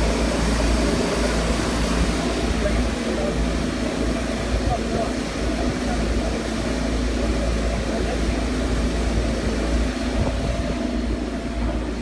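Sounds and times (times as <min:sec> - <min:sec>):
veneer lathe machine drone: 0:00.0 - 0:12.0.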